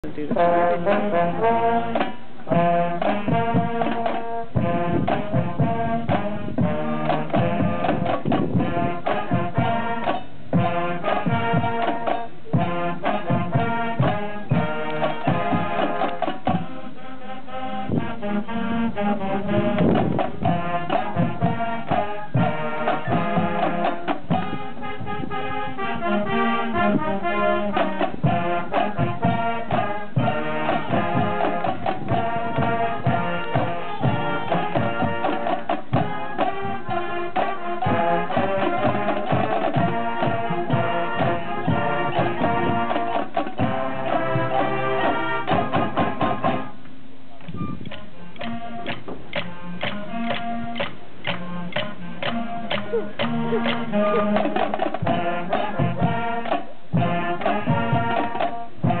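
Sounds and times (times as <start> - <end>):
percussion steady beat: 0.0 - 18.0, 19.2 - 46.7, 47.9 - 59.0
marching band brass: 0.0 - 59.0.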